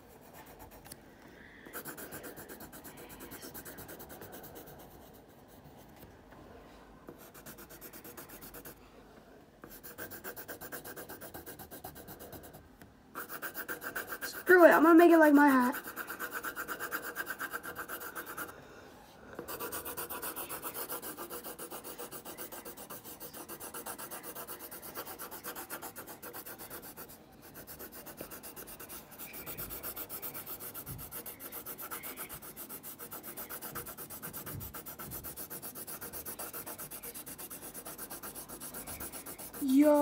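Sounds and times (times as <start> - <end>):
pencil scribbling on paper: 0.0 - 1.0, 1.6 - 5.9, 7.1 - 8.8, 9.6 - 12.6, 13.2 - 18.5, 19.4 - 40.0.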